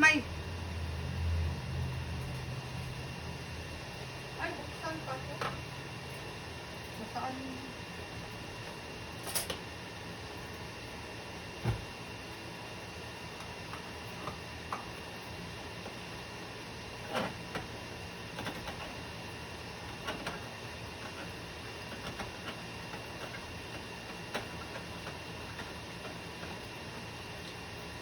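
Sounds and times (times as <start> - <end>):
background hiss and hum: 0.0 - 28.0.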